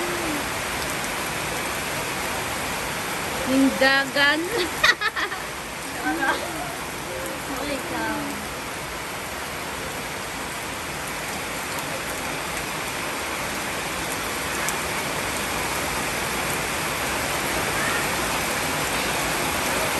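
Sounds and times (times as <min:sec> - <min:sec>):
heavy rain on plants and grass: 0:00.0 - 0:19.9.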